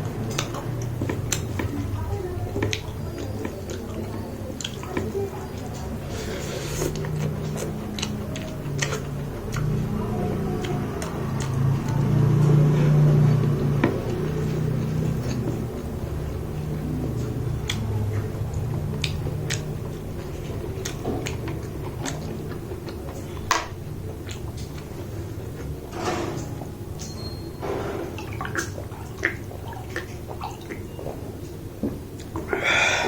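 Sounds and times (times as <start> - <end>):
wet slurping: 0.0 - 26.7, 27.6 - 33.0
wet chewing and lip smacks: 0.1 - 25.8, 28.2 - 32.6.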